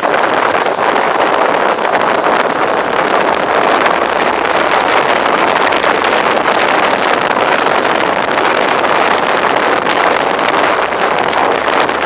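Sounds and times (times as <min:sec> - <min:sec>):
motorboat running: 0:00.0 - 0:12.0
wind on microphone: 0:00.0 - 0:12.0.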